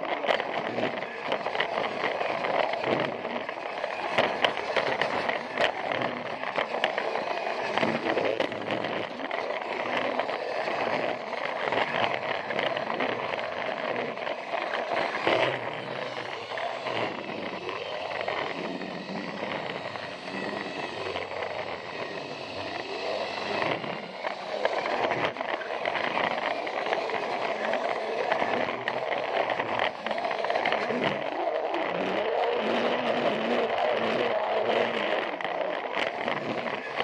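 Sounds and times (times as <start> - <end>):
toy train motor whir: 0.0 - 37.0
wheels clicking over track: 0.0 - 37.0.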